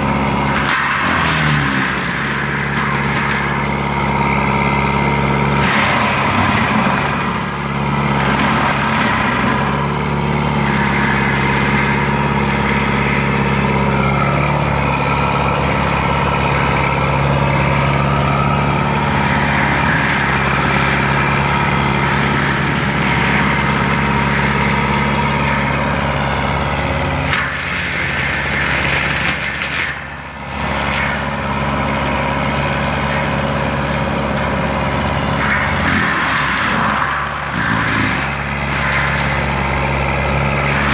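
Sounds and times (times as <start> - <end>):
forestry mulcher running: 0.0 - 40.9.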